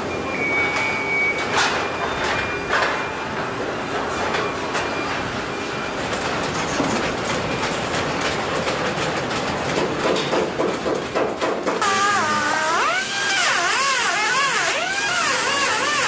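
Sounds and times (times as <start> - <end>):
machinery clattering: 1.4 - 16.0.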